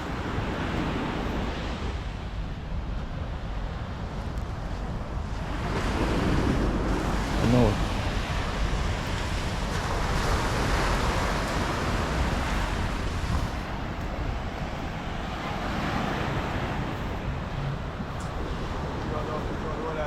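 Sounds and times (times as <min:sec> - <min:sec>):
surf washing onto rocky beach: 0:00.0 - 0:20.0
wind buffeting microphone: 0:00.0 - 0:20.0.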